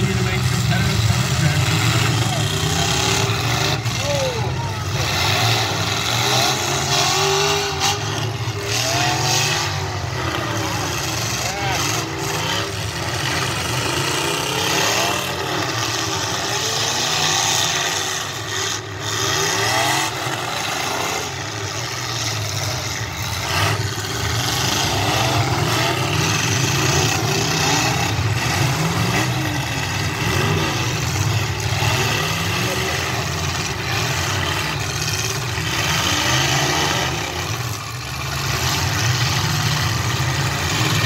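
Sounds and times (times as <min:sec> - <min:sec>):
car engines revving: 0:00.0 - 0:41.0
dense background noise: 0:00.0 - 0:41.0.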